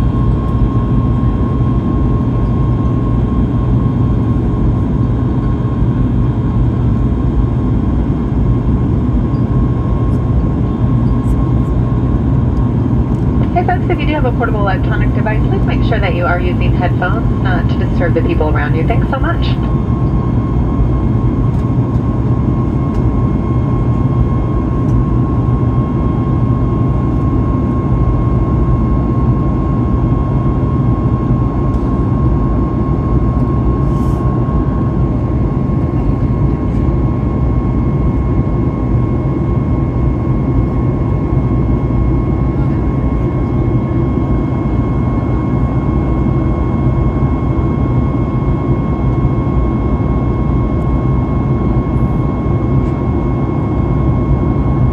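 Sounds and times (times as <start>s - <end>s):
jet engine roar: 0.0s - 54.9s
thin steady whine: 0.0s - 54.9s.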